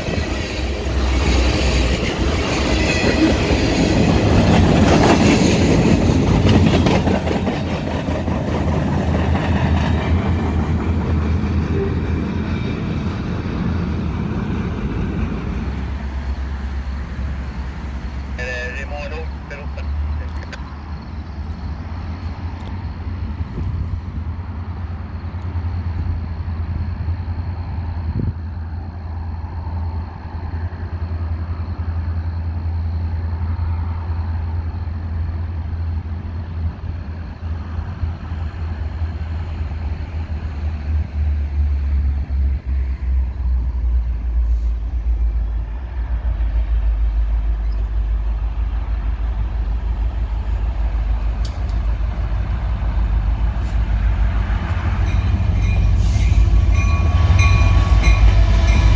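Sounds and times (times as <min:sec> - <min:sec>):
train locomotive rumble: 0:00.0 - 0:58.9.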